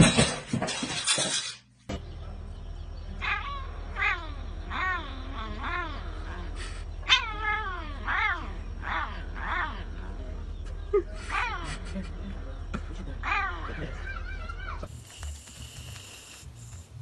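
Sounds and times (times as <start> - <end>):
steady low hum: 1.6 - 17.0.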